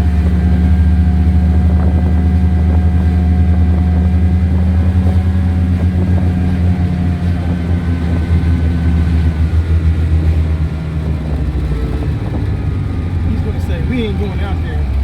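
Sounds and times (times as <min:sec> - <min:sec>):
small truck engine droning: 0:00.0 - 0:15.0.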